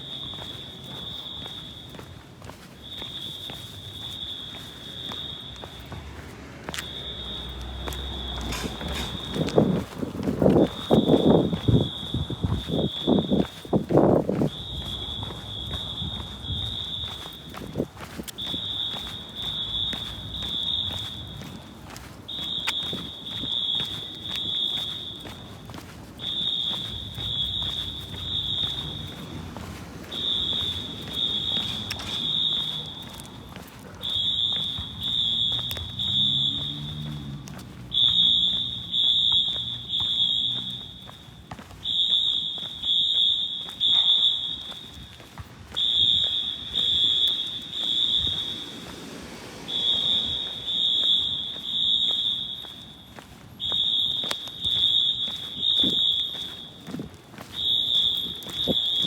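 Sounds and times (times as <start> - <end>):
fire alarm horns beeping: 0.0 - 49.0, 49.6 - 59.0.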